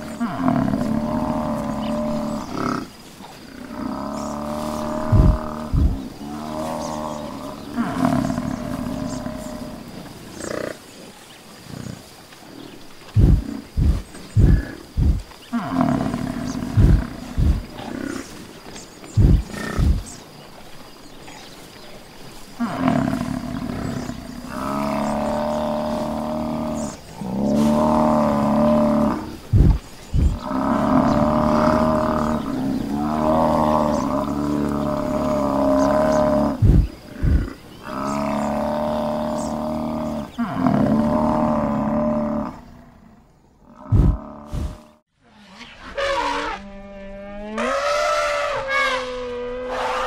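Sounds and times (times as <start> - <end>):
buffalo bellowing: 0.0 - 10.8, 13.2 - 18.3, 22.6 - 42.9, 46.0 - 50.0
buffalo deep grunts: 0.0 - 20.3, 22.5 - 45.0.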